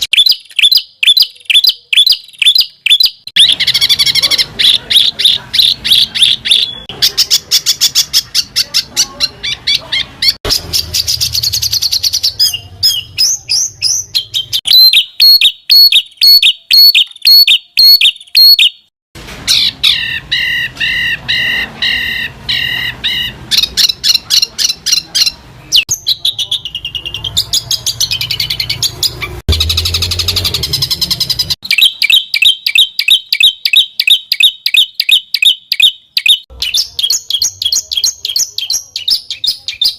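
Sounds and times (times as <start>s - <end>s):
songbird song: 0.0s - 18.9s, 19.5s - 39.9s.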